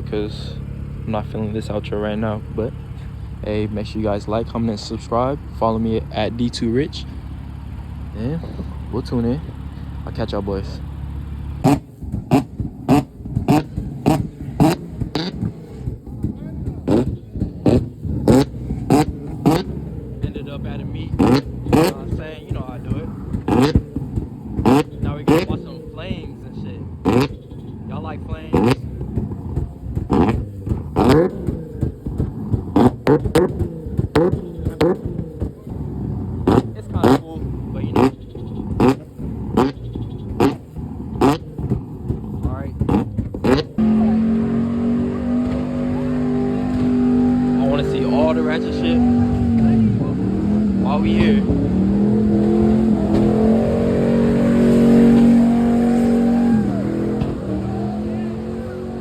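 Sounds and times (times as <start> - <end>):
car engine revving: 0.0 - 59.0
engine idling: 0.0 - 59.0
exhaust popping and crackling: 0.0 - 59.0.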